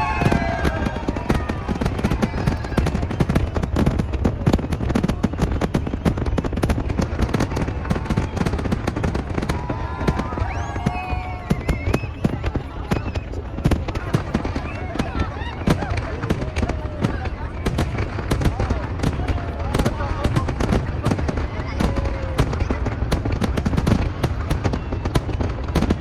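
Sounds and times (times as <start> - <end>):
firework bursts and crackles: 0.0 - 26.0
spectators' voices: 0.0 - 26.0.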